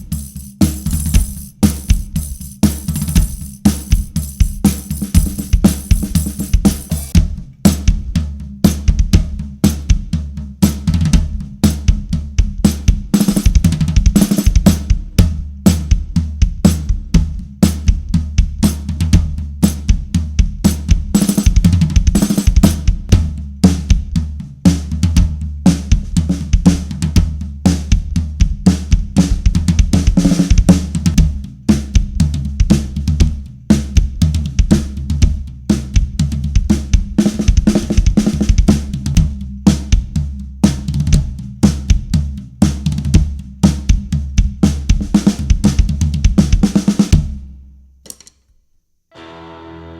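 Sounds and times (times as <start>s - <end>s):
deadened drum kit groove: 0.0s - 47.5s, 48.1s - 48.4s.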